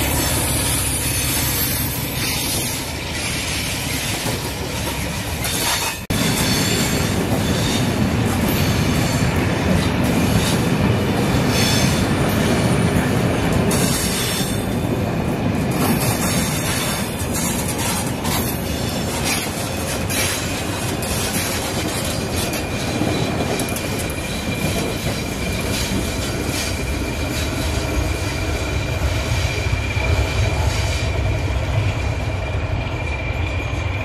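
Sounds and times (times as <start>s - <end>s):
train coaches rolling past: 0.0s - 34.0s.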